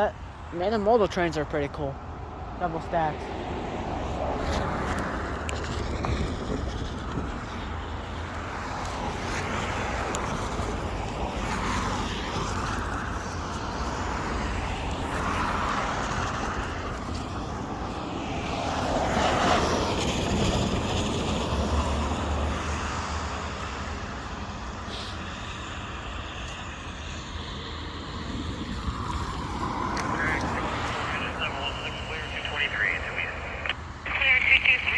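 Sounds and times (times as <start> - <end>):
vehicle rumble: 0.0 - 34.9.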